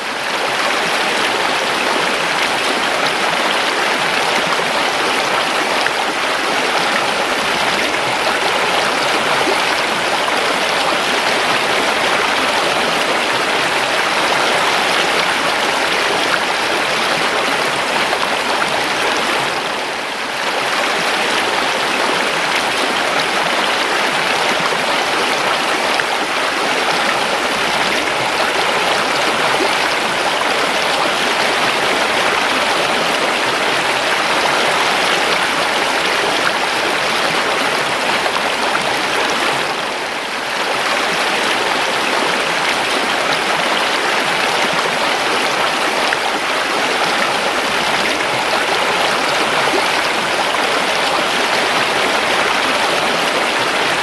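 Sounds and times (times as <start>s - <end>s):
stream rushing and babbling: 0.0s - 54.0s.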